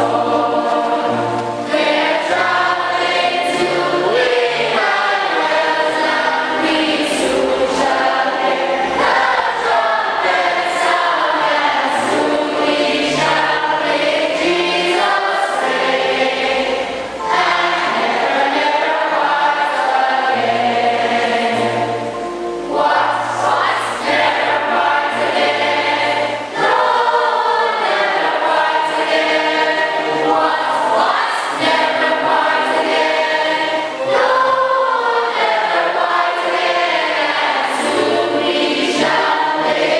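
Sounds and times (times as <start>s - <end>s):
group singing a hymn: 0.0s - 39.9s.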